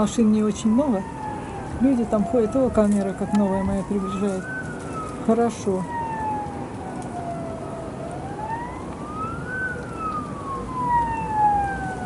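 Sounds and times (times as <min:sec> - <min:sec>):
low background noise: 0:00.0 - 0:12.0
siren wailing: 0:00.0 - 0:12.0.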